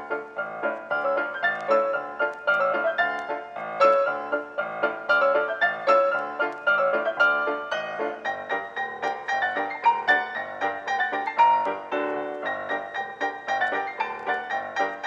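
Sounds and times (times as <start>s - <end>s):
keyboard music quick notes: 0.0s - 15.0s.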